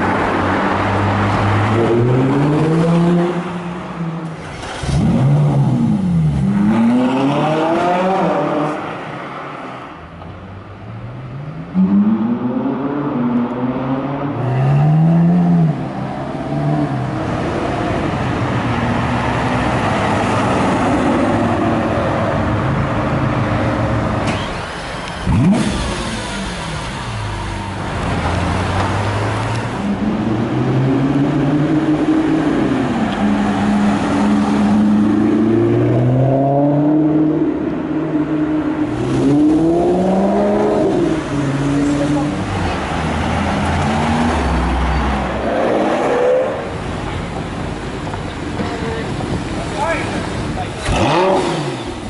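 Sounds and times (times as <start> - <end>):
sports car engines revving: 0.0 - 52.0.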